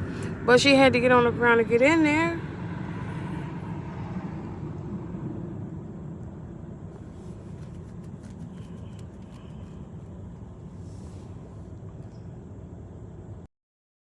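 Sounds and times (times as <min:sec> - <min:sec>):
low outdoor rumble: 0:00.0 - 0:13.5.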